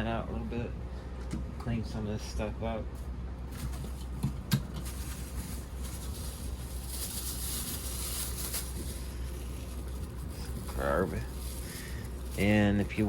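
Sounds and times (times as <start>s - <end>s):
air-conditioner hum: 0.0s - 13.0s.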